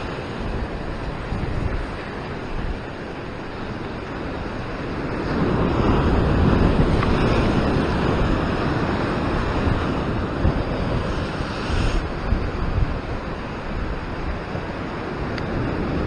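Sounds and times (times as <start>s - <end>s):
ocean waves breaking on rocks: 0.0s - 16.0s
wind buffeting microphone: 0.0s - 16.0s.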